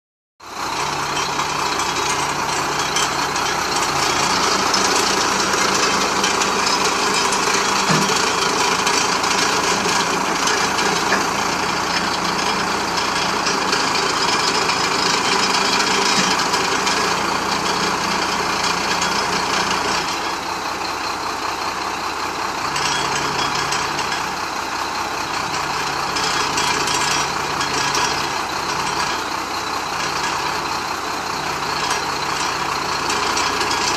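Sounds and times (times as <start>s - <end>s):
truck diesel engine running: 0.4s - 33.9s.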